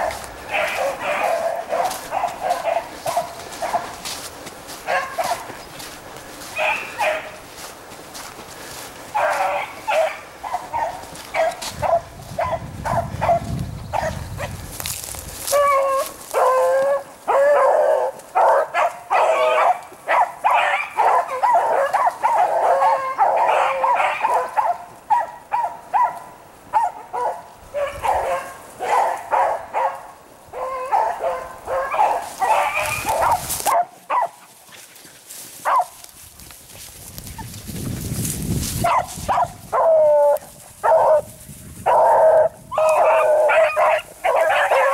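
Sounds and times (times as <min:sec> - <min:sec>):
dogs barking and baying: 0:00.0 - 0:34.6, 0:35.6 - 0:36.1, 0:38.8 - 0:44.9.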